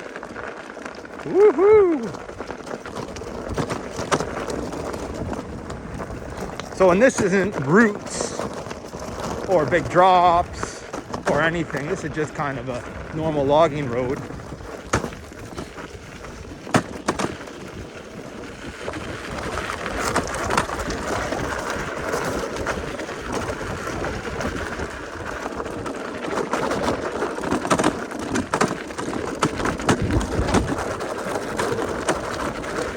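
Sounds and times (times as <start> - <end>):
tyre and wind noise: 0.0 - 32.9.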